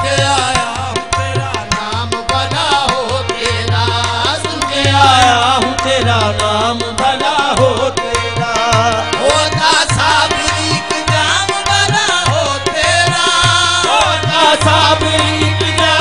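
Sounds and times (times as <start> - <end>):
tabla and drums rhythm: 0.0 - 16.0.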